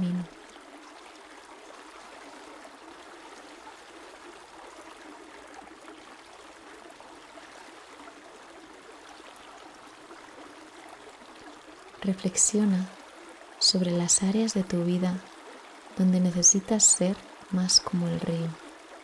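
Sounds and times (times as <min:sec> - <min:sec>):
flowing stream water: 0:00.0 - 0:19.0.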